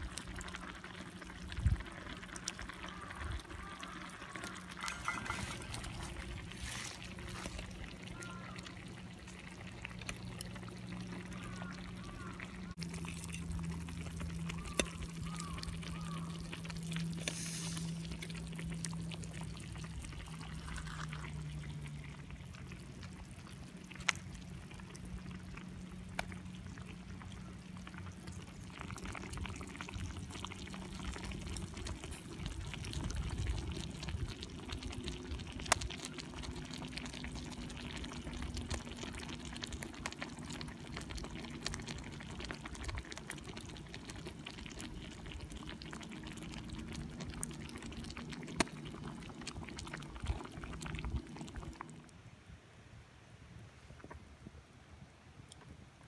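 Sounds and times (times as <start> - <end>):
liquid trickling: 0.0 - 52.1.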